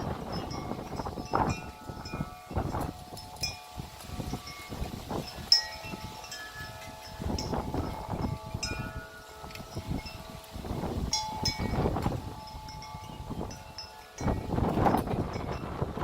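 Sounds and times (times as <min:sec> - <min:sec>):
wind buffeting microphone: 0:00.0 - 0:16.0
wind chimes ringing: 0:00.0 - 0:16.0.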